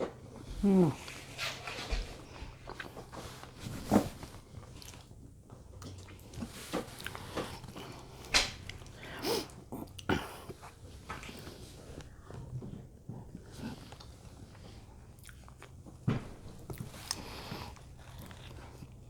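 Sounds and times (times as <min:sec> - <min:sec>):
person chewing food: 0:01.9 - 0:12.5, 0:13.3 - 0:19.0.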